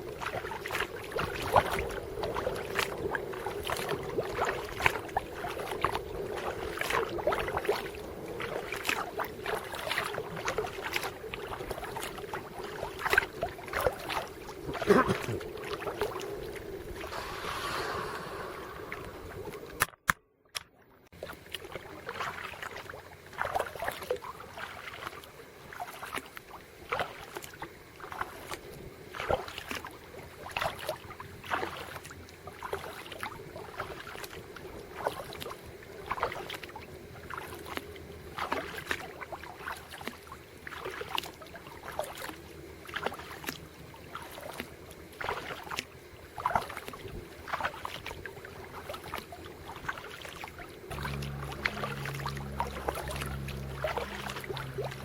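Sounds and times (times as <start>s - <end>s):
water swishing along hull: 0.0s - 20.0s, 20.7s - 55.0s
paddle splashes and drips: 0.0s - 55.0s.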